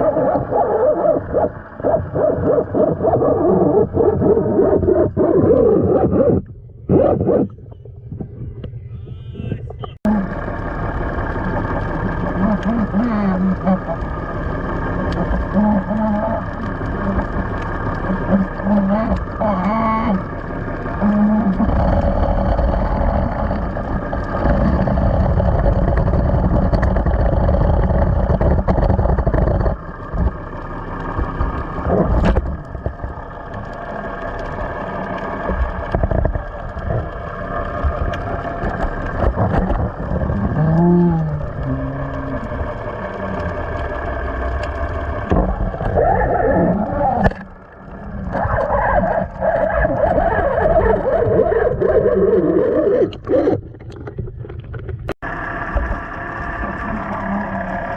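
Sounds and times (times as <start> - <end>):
boat engine rumbling: 0.0 - 57.9.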